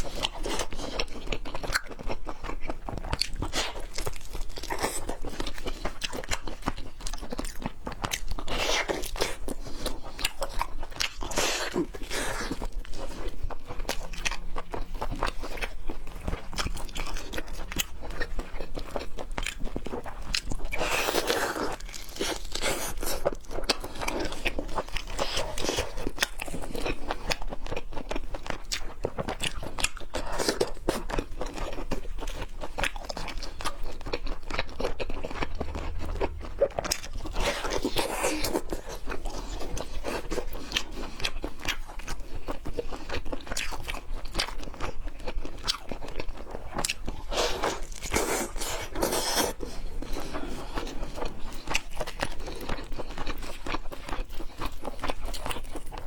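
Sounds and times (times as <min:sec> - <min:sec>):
chewing raw seafood: 0:00.0 - 0:56.0.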